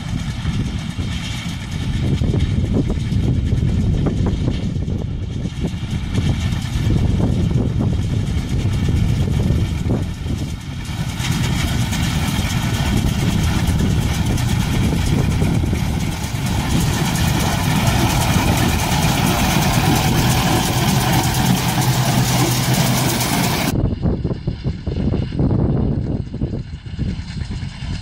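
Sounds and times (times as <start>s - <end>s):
tractor engine running: 0.0s - 23.8s.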